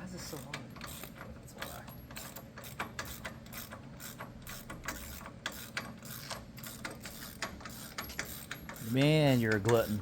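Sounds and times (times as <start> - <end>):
socket ratchet clicking: 0.4 - 10.0.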